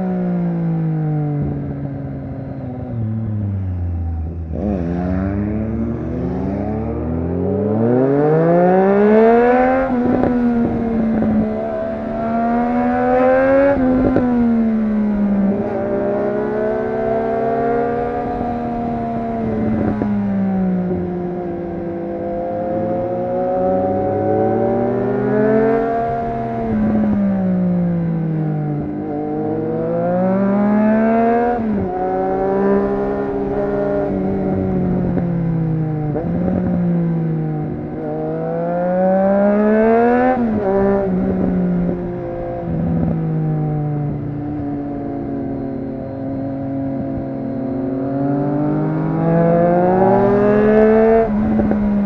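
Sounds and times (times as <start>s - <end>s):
motorcycle engine riding: 0.0s - 52.0s.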